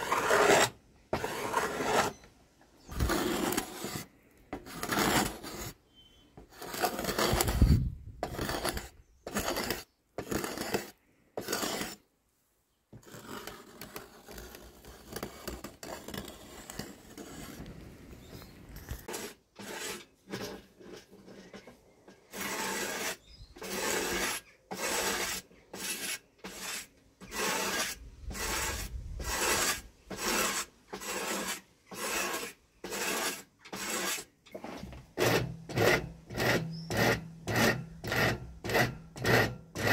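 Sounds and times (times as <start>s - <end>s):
blade scraping wood: 0.0s - 12.0s, 12.9s - 39.9s.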